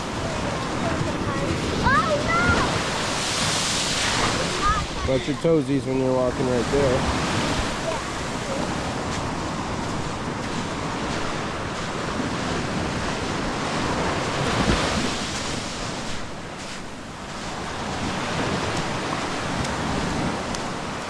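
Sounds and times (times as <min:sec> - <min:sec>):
surf washing over rocks: 0:00.0 - 0:21.0
wind buffeting microphone: 0:00.0 - 0:21.0.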